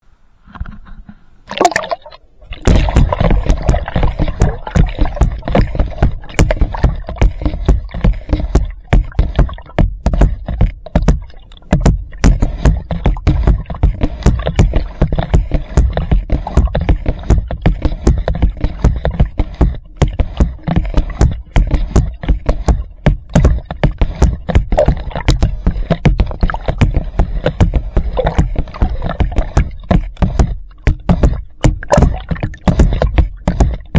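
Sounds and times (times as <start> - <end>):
water splashing and sloshing: 0.4 - 33.9
sharp knocks: 2.6 - 33.9.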